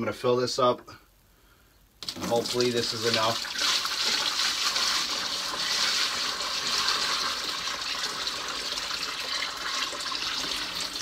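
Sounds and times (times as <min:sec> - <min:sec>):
water pouring into cooler: 0:02.0 - 0:11.0.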